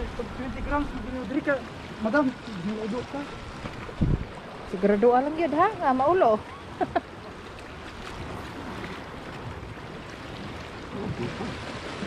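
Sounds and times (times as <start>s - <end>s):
sea lapping against rocks: 0.0s - 12.0s.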